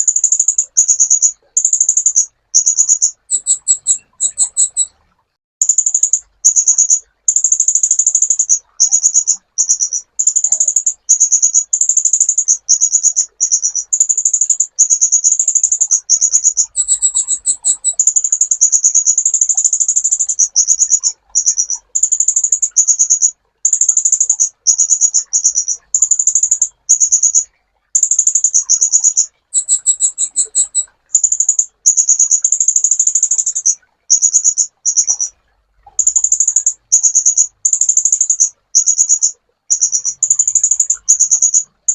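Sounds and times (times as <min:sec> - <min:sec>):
sunbird singing trilled phrases: 0:00.0 - 0:05.0, 0:05.6 - 0:41.9.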